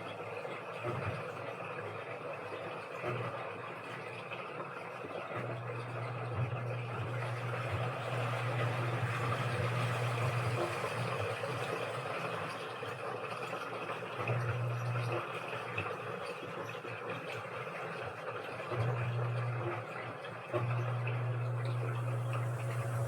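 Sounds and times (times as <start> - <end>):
washing machine motor humming: 0.0 - 23.0.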